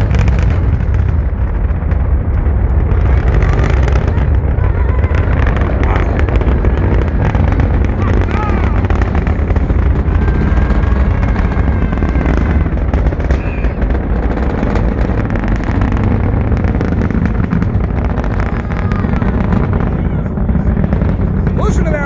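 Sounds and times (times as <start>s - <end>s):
rocket engines roaring: 0.0s - 22.0s.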